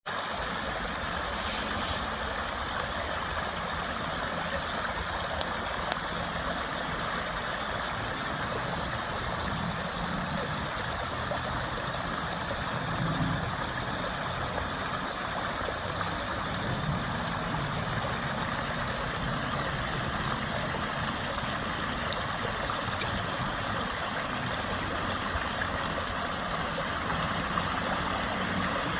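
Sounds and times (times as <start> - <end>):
water flowing: 0.1 - 28.9.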